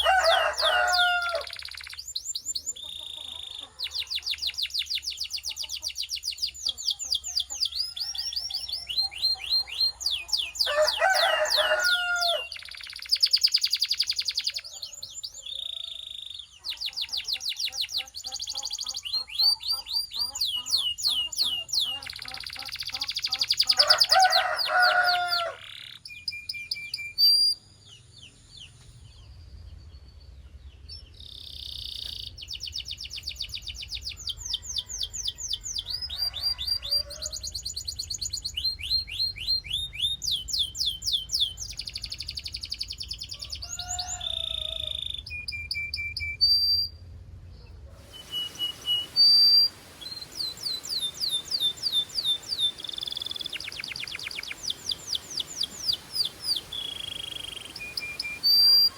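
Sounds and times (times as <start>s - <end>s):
canary trilling song: 0.0s - 58.9s.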